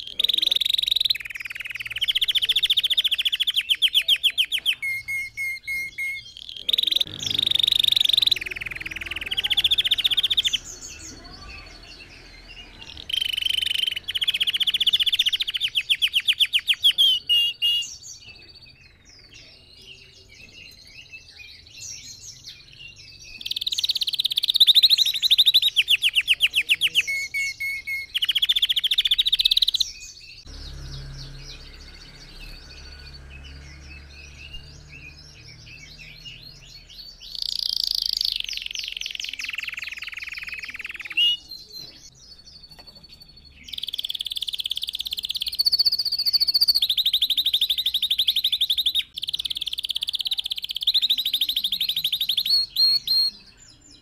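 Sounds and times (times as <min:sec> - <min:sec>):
canary singing trills: 0:00.0 - 0:54.0
soft bird twitters: 0:00.0 - 0:54.0.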